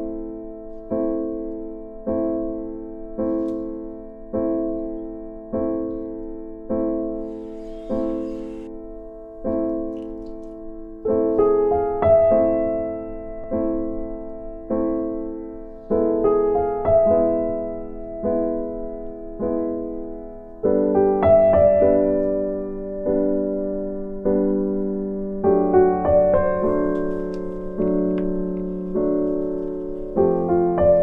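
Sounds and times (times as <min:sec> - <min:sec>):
slow gentle piano music: 0:00.0 - 0:31.0.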